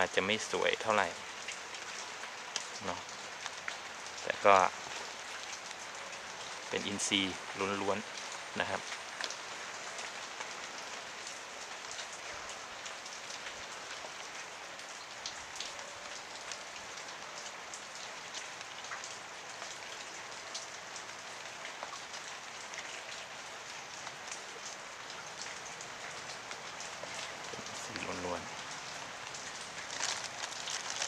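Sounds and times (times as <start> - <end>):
raindrops ticking close by: 0.0 - 31.0
steady rain hiss: 0.0 - 31.0.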